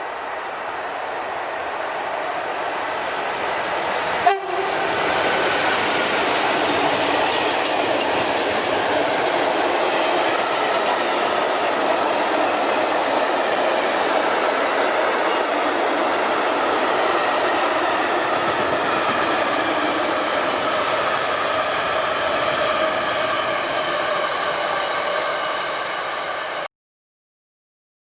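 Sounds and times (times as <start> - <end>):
freight train rumbling past: 0.0 - 26.6.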